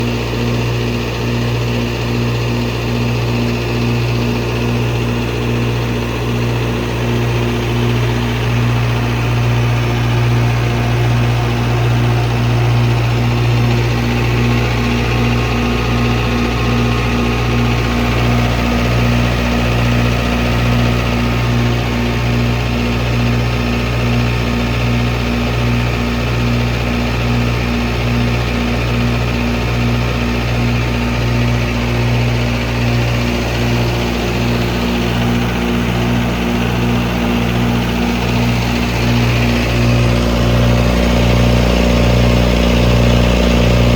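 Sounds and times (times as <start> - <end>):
diesel generator engine humming: 0.0 - 43.9.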